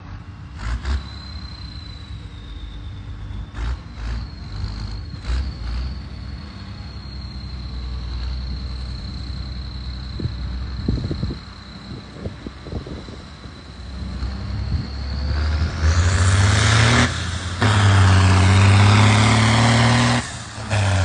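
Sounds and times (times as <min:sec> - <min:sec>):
diesel tractor engine running: 0:00.0 - 0:21.0
high steady whine: 0:00.0 - 0:21.0.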